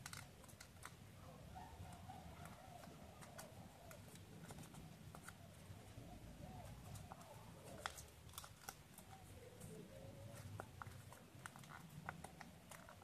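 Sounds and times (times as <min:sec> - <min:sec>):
paper rustling and creasing: 0:02.4 - 0:13.0.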